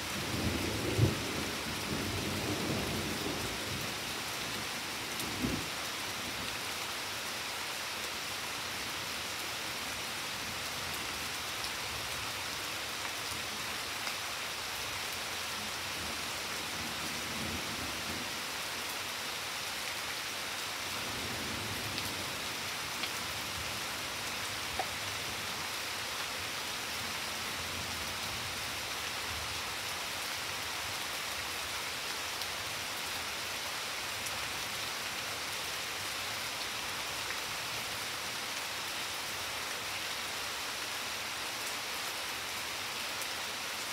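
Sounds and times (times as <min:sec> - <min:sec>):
rain falling on leaves: 0:00.0 - 0:43.9.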